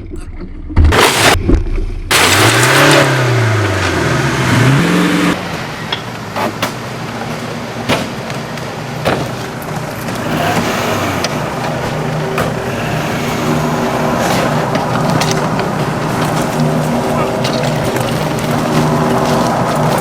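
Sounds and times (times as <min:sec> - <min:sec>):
car engine running: 0:02.1 - 0:20.0.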